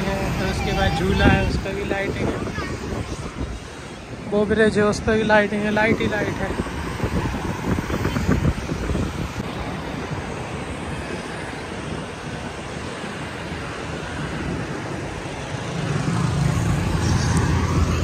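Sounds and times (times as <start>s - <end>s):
road traffic crossing bridge: 0.0s - 18.0s.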